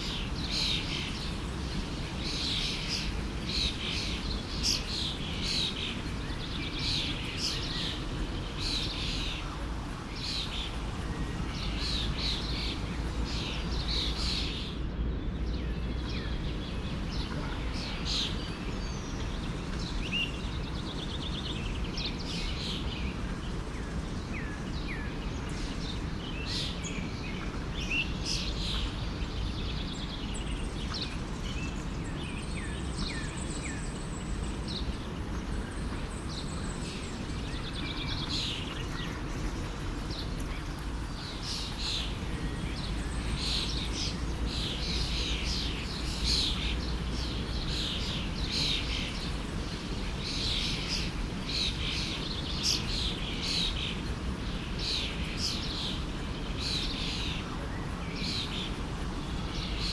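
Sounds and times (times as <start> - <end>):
birds chirping: 0.0 - 59.9
forest stream rushing: 0.0 - 59.9.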